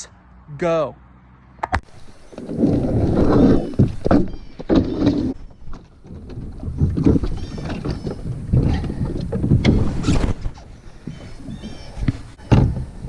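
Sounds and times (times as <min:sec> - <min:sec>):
kayak scraping: 0:01.9 - 0:13.0.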